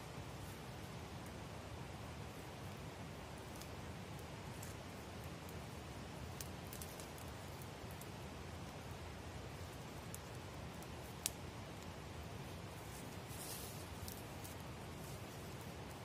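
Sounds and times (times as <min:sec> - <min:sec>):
campfire crackling: 0:00.0 - 0:16.0
faint fire hiss: 0:00.0 - 0:16.0.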